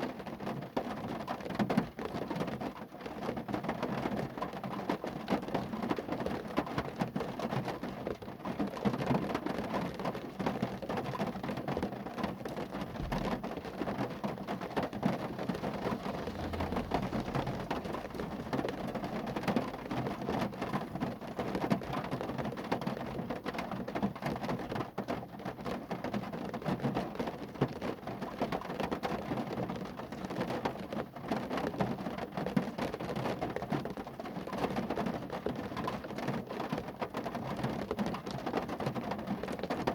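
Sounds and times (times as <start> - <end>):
rain pattering on a car: 0.0 - 39.9.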